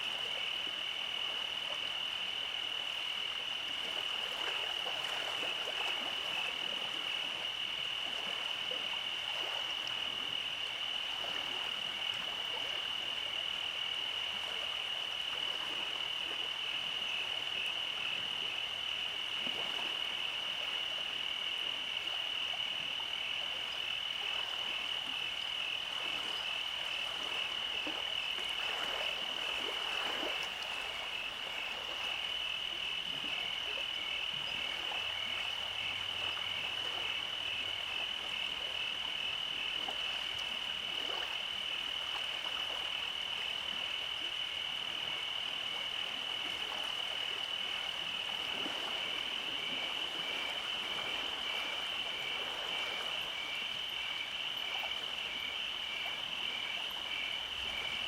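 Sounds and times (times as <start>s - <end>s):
frogs croaking: 0.0s - 58.0s
frogs trilling: 0.0s - 58.0s.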